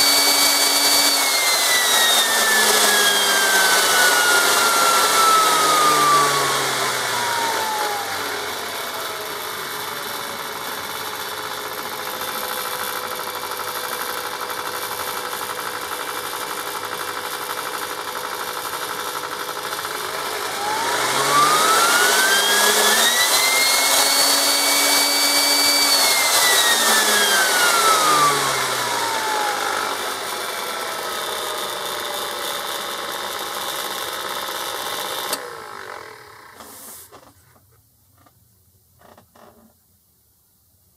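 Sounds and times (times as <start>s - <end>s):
blender motor whining: 0.0s - 37.3s.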